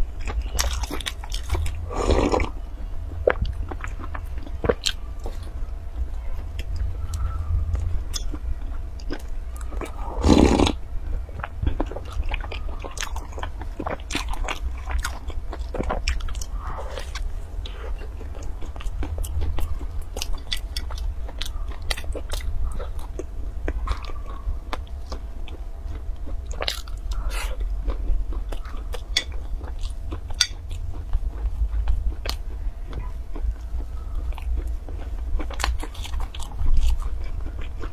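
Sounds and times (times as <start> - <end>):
crunchy pastry bites and chewing: 0.0 - 37.9.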